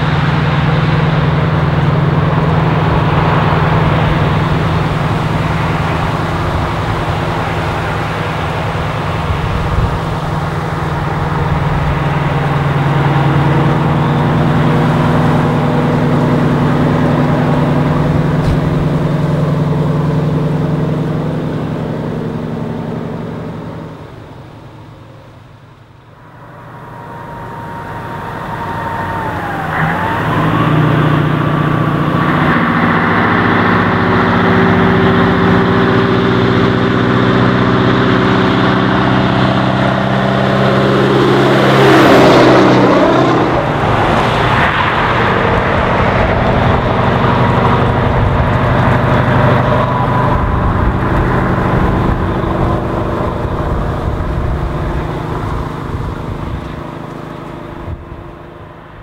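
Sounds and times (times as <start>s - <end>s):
truck engine passing by: 0.0s - 59.0s.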